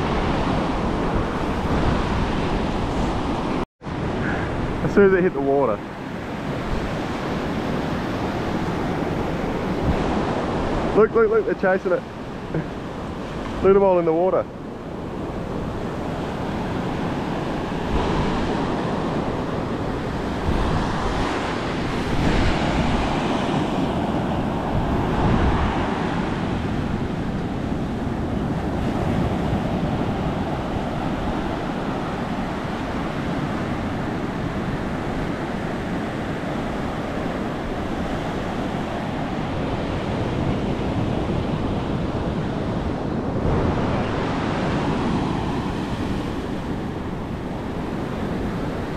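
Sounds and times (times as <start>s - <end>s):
waves breaking on shore: 0.0s - 48.9s
wind rumbling on microphone: 0.0s - 48.9s.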